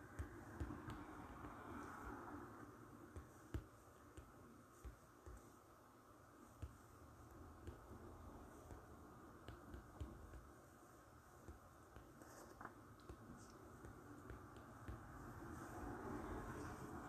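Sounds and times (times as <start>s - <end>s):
fingertips tapping touchscreen: 0.0s - 5.7s, 6.3s - 17.0s
faint room hiss: 0.0s - 17.0s.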